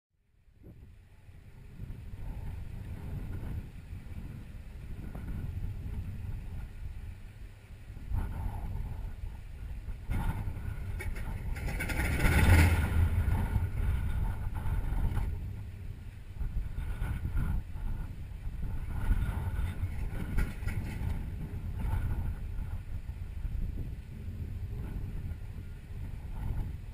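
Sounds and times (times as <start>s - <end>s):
radial engine low uneven rumble: 0.2s - 26.9s.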